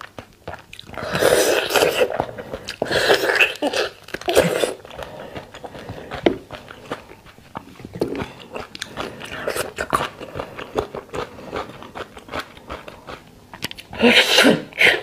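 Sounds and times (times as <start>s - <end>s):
wet messy chewing: 0.0s - 14.5s.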